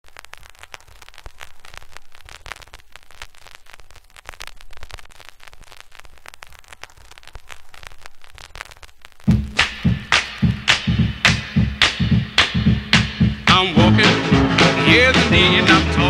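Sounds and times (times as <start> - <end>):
crackle and hiss: 0.0 - 13.8.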